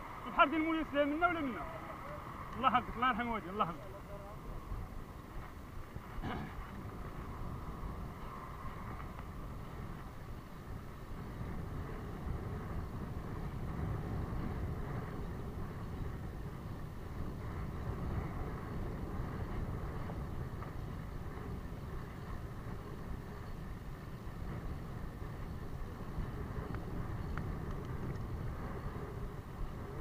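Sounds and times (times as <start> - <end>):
bicycle tyre noise: 0.0 - 30.0
wind rumble on microphone: 0.0 - 30.0.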